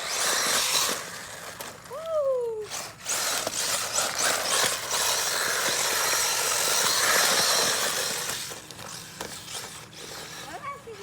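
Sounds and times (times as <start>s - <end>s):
rc truck tyres and motor hissing: 0.0s - 11.0s.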